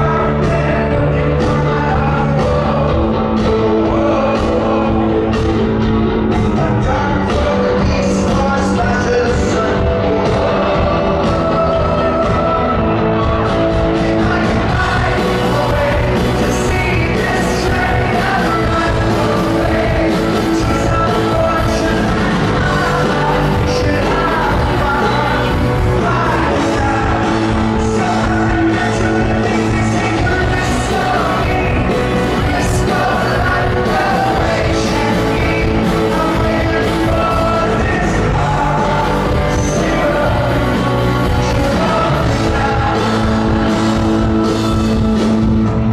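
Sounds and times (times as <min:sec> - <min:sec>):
person singing lead vocal: 0:00.0 - 0:45.9
rock band playing live: 0:00.0 - 0:45.9.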